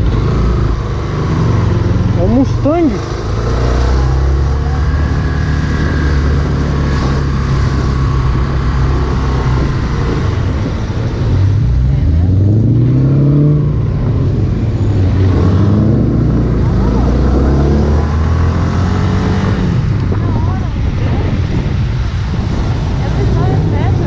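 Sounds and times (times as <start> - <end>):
motorcycle engine running: 0.0 - 24.0
town traffic: 0.0 - 24.0.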